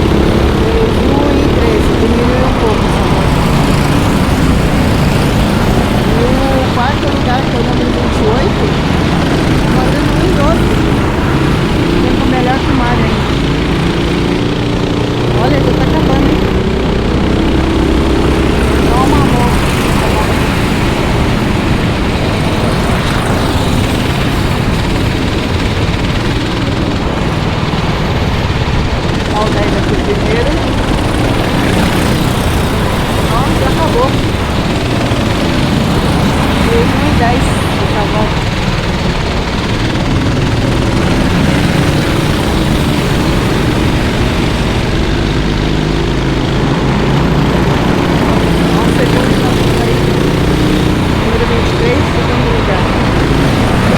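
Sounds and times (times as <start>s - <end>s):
racing kart engine running: 0.0s - 53.9s.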